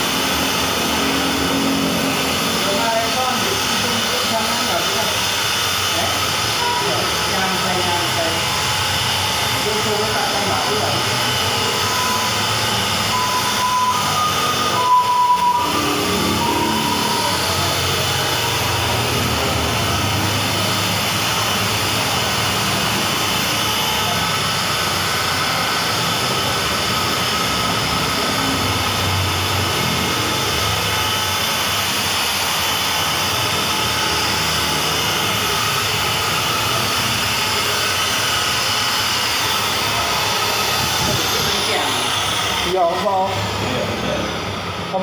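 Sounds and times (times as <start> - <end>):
electric car polisher running: 0.0 - 45.0.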